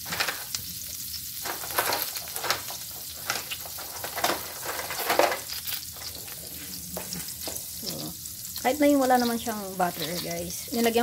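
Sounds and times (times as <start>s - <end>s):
butter sizzling in a skillet: 0.0s - 11.0s.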